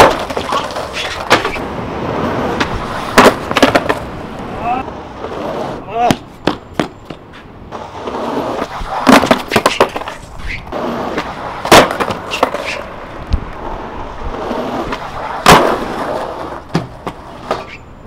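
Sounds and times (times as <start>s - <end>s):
skateboard clacks and slaps: 0.0s - 4.1s, 4.8s - 17.8s
skateboard wheels rolling on concrete: 0.0s - 18.0s.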